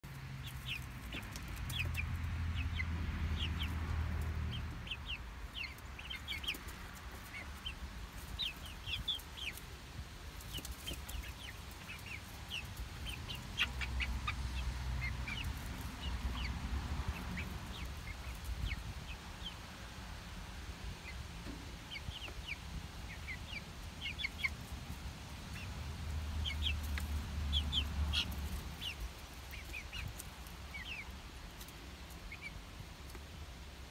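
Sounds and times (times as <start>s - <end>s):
chicks peeping and clucking: 0.0s - 33.9s.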